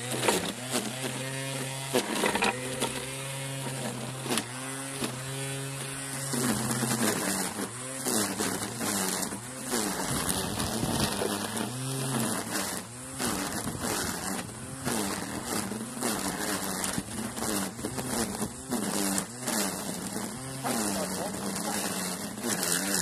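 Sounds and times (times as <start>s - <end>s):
string trimmer cutting grass: 0.0s - 23.0s.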